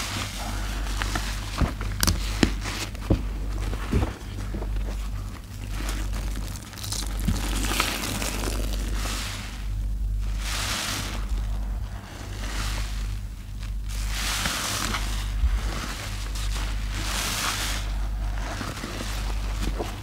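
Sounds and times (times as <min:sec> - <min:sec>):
sponges squelching in soapy water: 0:00.0 - 0:20.0.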